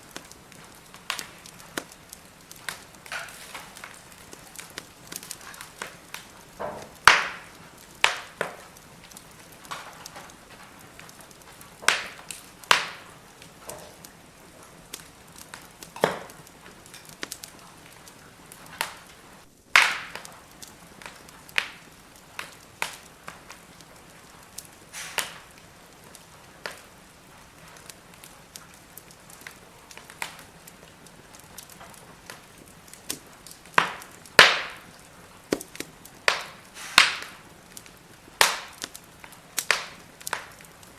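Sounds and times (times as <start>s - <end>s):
faint steady hiss: 0.0s - 40.9s
firewood crackling and popping: 0.0s - 40.9s
loud fire snaps: 0.0s - 40.9s.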